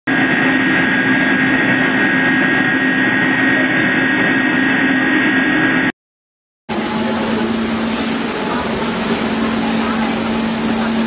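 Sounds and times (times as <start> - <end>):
rice milling machine drone: 0.1 - 5.9, 6.7 - 11.0.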